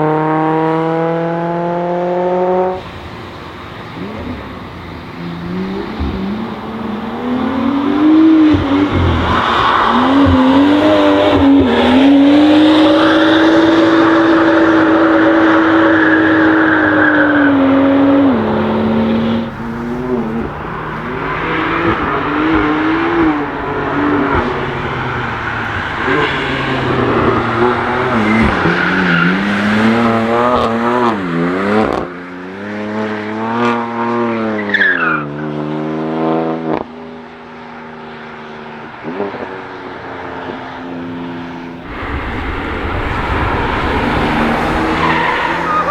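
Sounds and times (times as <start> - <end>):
race car engines revving and passing: 0.0 - 45.9.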